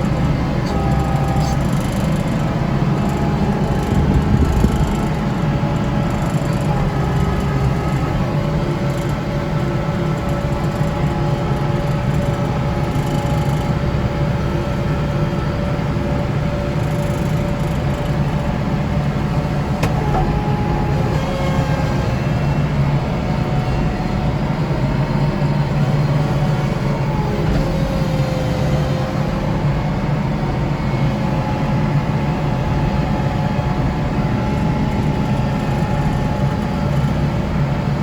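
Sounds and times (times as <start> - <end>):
snow blower whining: 0.0 - 38.0
tractor diesel engine running: 0.0 - 38.0.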